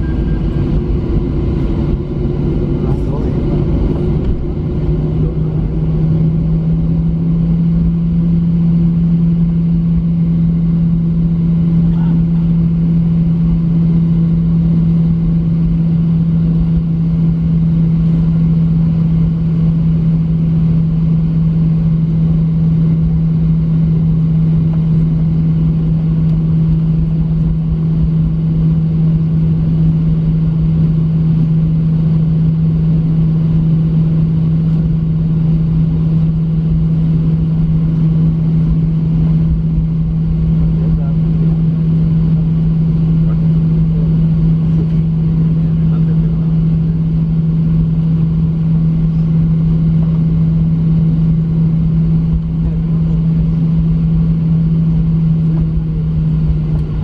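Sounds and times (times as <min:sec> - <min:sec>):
constant rumble: 0:00.0 - 0:57.0
jet engine hum: 0:00.0 - 0:57.0.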